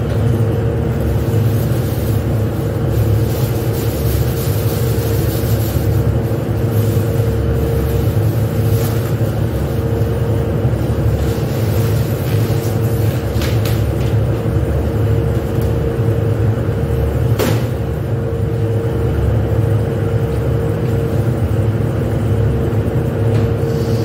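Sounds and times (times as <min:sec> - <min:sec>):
factory machinery rumble: 0:00.0 - 0:24.0.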